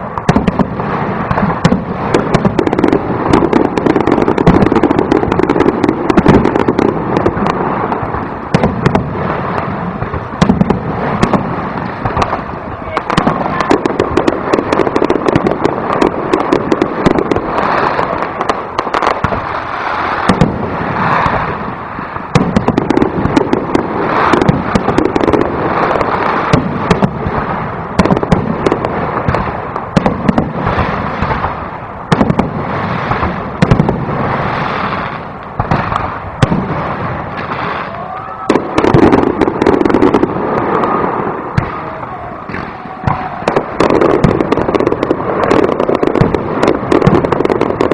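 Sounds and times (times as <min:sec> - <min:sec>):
fireworks bangs and crackling: 0:00.0 - 0:47.9.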